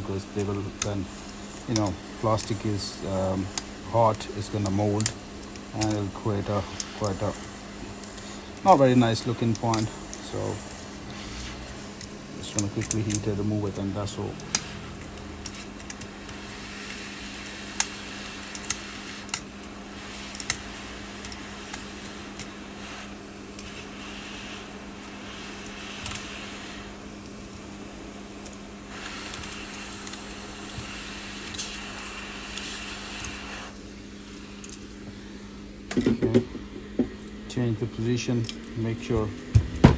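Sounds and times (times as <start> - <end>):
heat gun blowing: 0.0 - 39.9.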